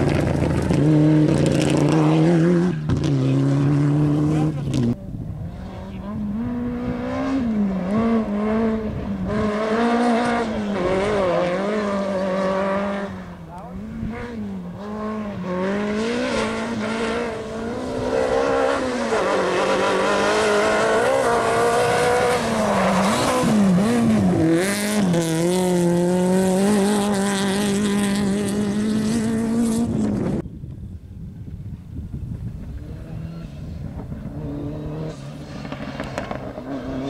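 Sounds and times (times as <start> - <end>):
rally car engine revving: 0.0 - 30.4, 32.4 - 37.0.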